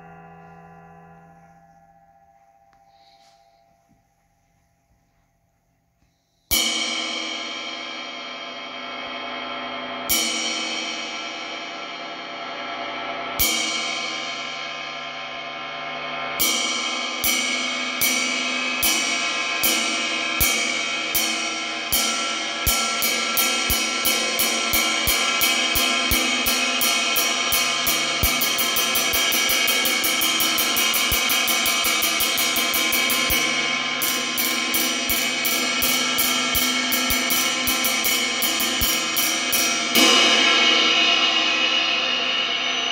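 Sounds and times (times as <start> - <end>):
ride cymbal struck with drumstick: 6.3 - 42.9.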